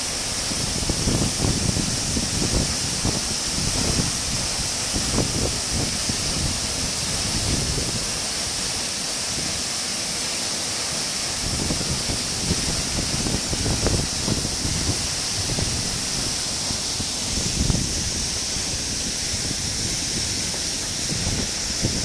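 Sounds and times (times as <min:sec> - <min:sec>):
waterfall rushing and splashing: 0:00.0 - 0:22.0
wind buffeting microphone: 0:00.5 - 0:08.2, 0:11.4 - 0:22.0.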